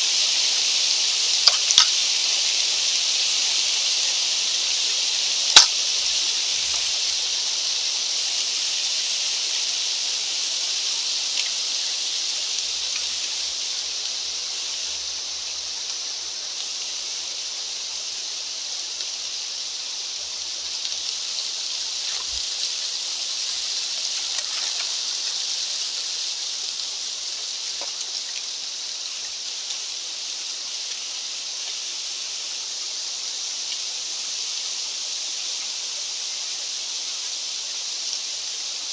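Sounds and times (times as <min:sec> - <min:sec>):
wind blowing high hiss: 0:00.0 - 0:38.9.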